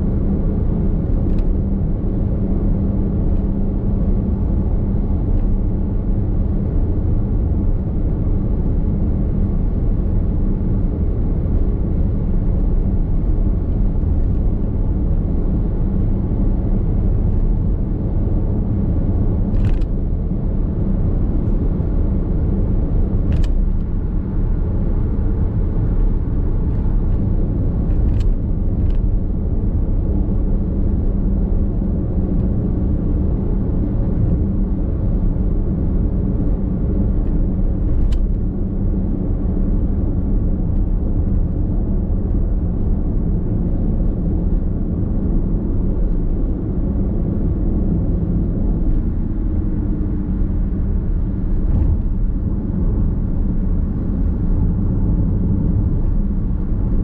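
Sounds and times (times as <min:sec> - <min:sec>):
road and tyre rumble in car cabin: 0:00.0 - 0:57.0.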